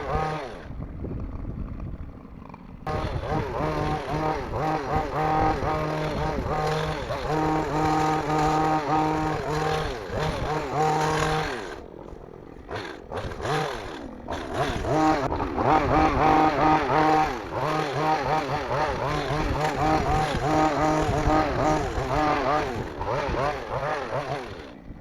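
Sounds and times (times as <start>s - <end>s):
hedge trimmer engine revving: 0.0s - 25.0s.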